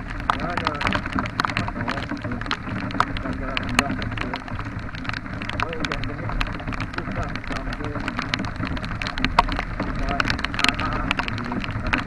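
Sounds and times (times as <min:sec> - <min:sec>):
moving vehicle rumble: 0:00.0 - 0:12.0
rain drops ticking: 0:00.0 - 0:12.0.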